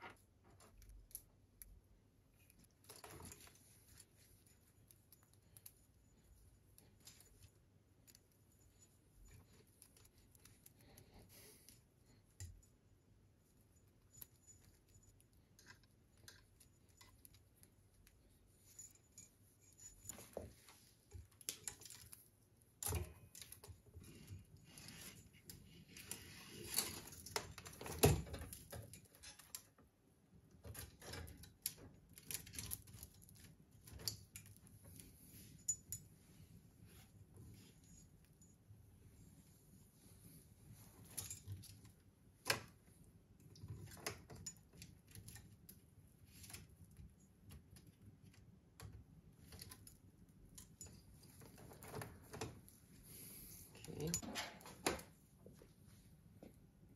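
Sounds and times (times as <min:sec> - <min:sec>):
wires rustling and clicking: 0:00.0 - 0:56.9.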